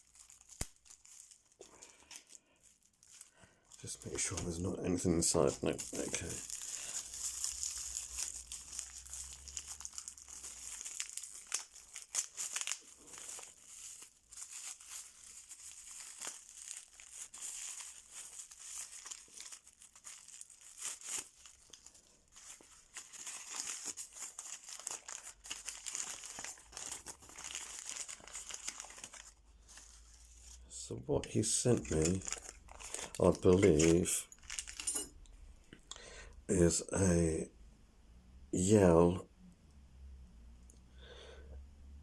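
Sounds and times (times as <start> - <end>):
packaging crinkling and tearing: 0.0 - 30.6, 31.2 - 35.2.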